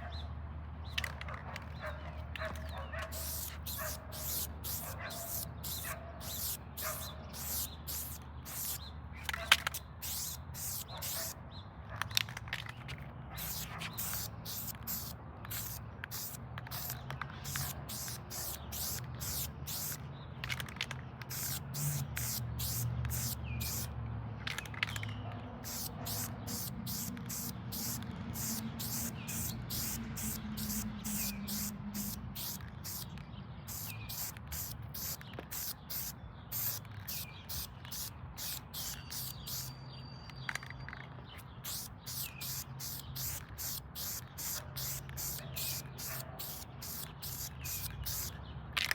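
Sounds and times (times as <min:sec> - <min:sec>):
spray paint can hissing: 0:03.1 - 0:11.4, 0:13.4 - 0:23.9, 0:25.6 - 0:39.8, 0:41.6 - 0:48.9.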